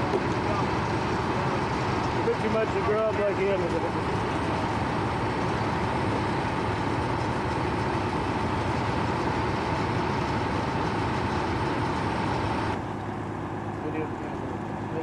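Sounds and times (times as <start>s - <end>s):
heavy machinery rumbling: 0.0s - 15.0s
high mechanical whine: 0.0s - 15.0s.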